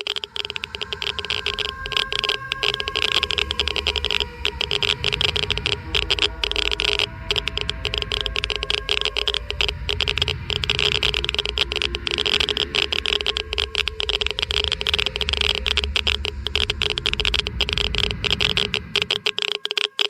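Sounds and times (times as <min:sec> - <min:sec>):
low hum and rumble: 0:00.0 - 0:19.4
geiger counter clicking: 0:00.0 - 0:20.0.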